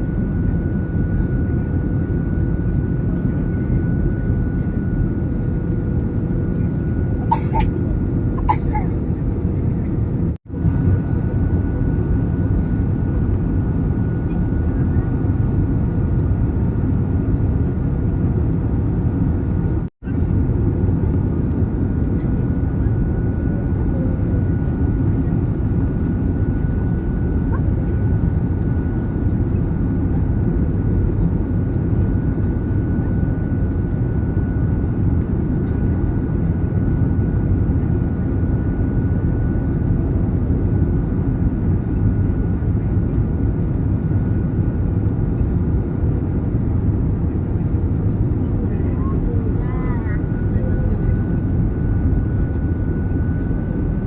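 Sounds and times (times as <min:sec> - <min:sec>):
jet engine rumble in cabin: 0:00.0 - 0:54.0.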